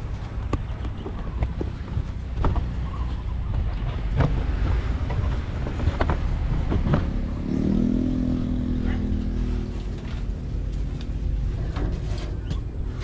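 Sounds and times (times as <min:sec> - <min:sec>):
low rumbling wind: 0:00.0 - 0:13.0.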